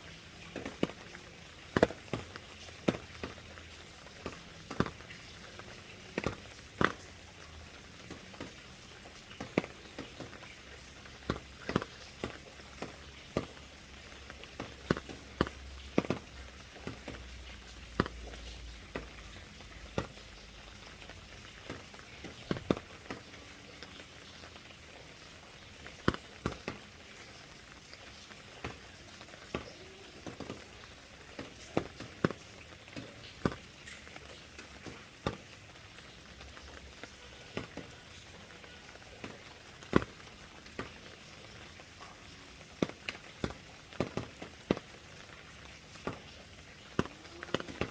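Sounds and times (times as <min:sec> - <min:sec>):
big raindrops tapping: 0:00.0 - 0:47.9
light rain hiss: 0:00.0 - 0:47.9.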